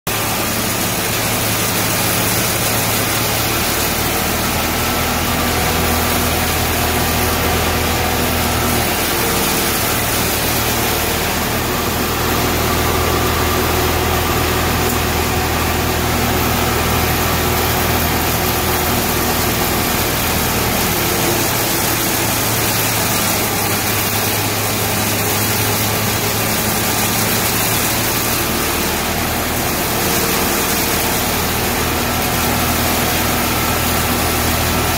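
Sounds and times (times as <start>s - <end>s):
hammer mill grinding hay: 0.1s - 34.9s
tractor engine humming: 0.1s - 34.9s.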